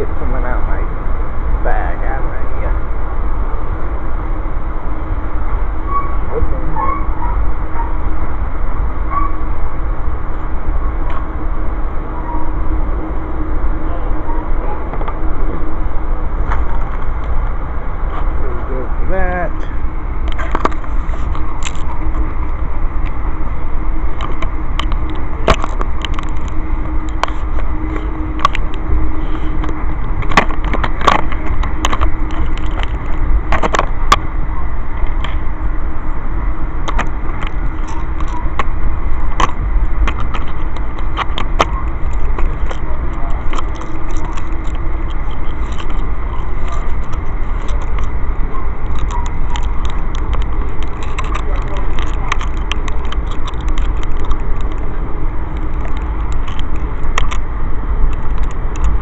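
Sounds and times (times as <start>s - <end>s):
faint steady hum: 0.0s - 59.0s
train rumbling inside coach: 0.0s - 59.0s.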